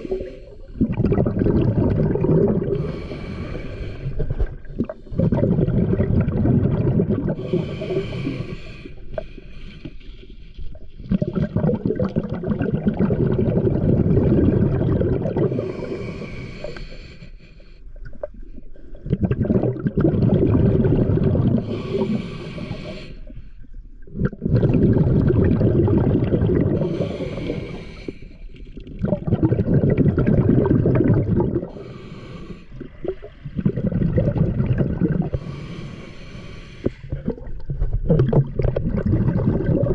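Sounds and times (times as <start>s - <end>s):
exhaled bubbles underwater: 0.0s - 9.4s, 10.4s - 16.8s, 17.9s - 39.9s.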